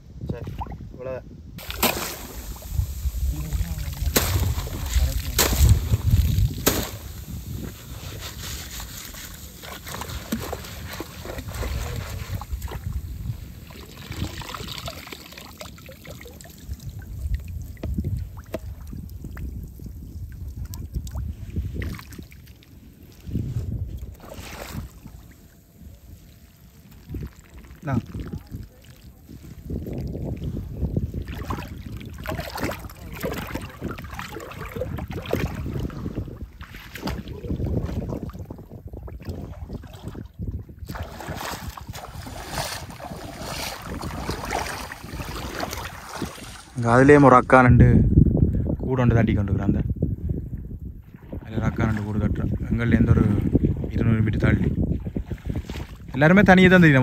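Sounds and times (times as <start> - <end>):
wind on microphone: 0.0 - 57.0
water trickling and splashing: 1.6 - 47.4, 54.3 - 57.0.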